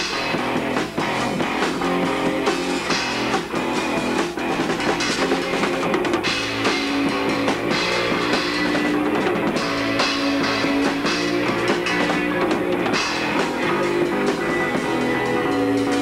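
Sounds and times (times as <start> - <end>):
bass guitar: 0.0 - 16.0
drum kit with cymbals: 0.0 - 16.0
electric guitar: 0.0 - 16.0.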